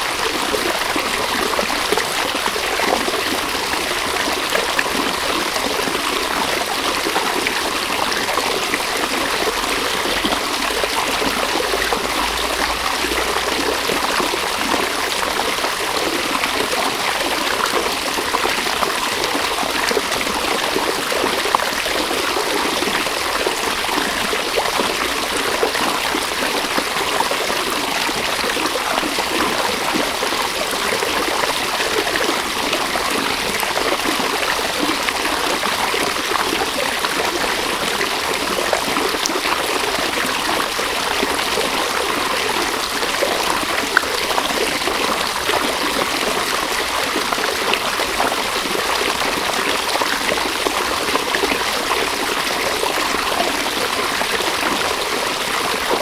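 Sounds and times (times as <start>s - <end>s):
river water babbling over stones: 0.0s - 56.0s.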